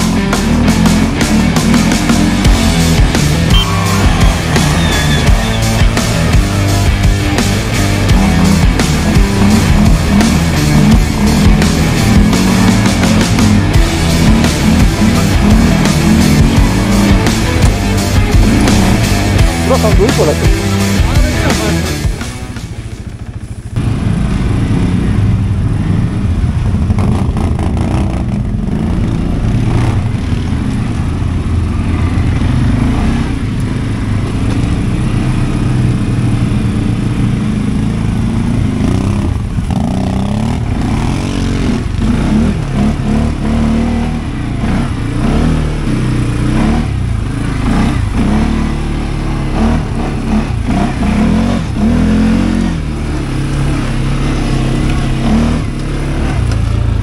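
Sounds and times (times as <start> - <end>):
atv engine revving under load: 0.0 - 57.0.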